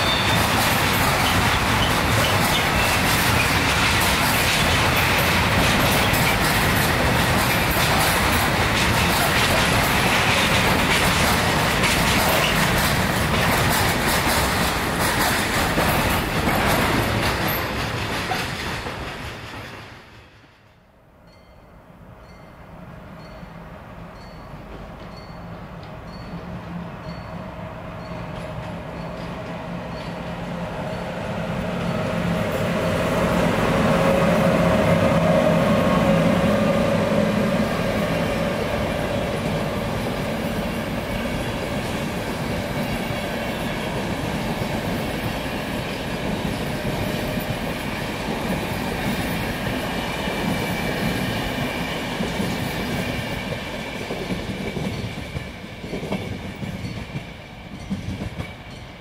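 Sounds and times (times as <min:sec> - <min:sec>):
train wheels on rails: 0:00.0 - 0:21.6, 0:22.2 - 0:59.0.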